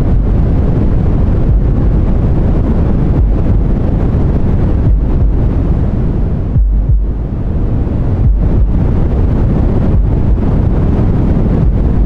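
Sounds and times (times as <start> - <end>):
deep white noise: 0.0 - 12.0.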